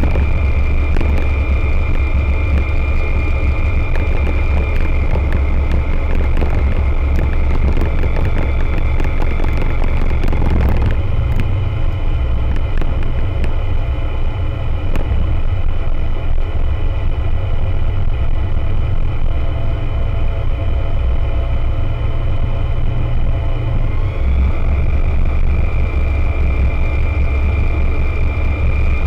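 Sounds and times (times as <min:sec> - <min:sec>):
light aircraft engine droning: 0:00.0 - 0:29.0
wind noise: 0:00.0 - 0:29.0.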